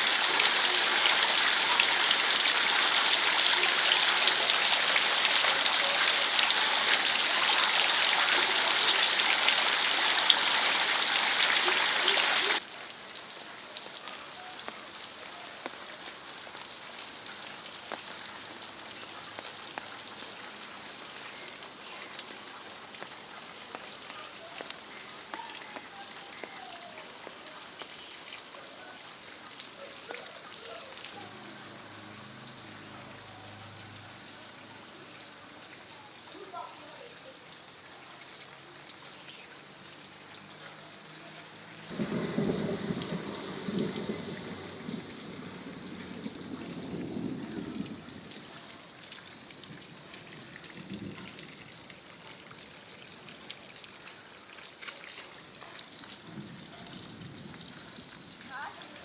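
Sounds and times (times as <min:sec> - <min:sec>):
heavy rain hissing: 0:00.0 - 0:54.1, 0:55.2 - 0:59.0
light rain patter: 0:00.0 - 0:59.0.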